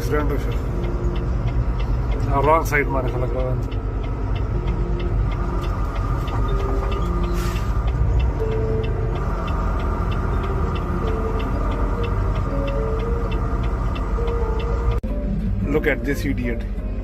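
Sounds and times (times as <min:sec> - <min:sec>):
fast even ticking: 0:00.0 - 0:15.2
engine and road rumble: 0:00.0 - 0:17.0.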